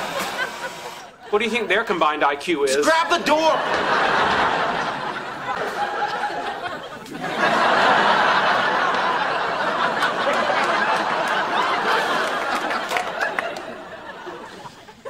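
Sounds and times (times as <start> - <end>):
studio audience laughing: 0.0 - 1.8, 2.8 - 15.0.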